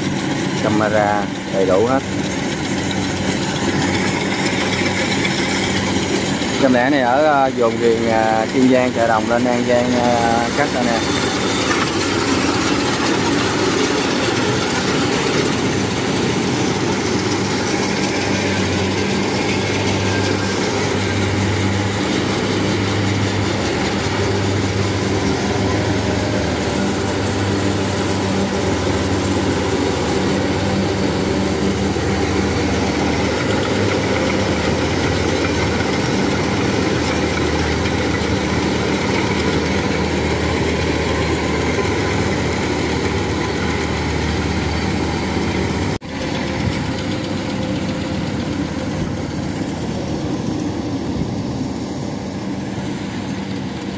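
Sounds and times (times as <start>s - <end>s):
combine harvester engine running: 0.0s - 53.9s
working gear noise: 0.0s - 53.9s.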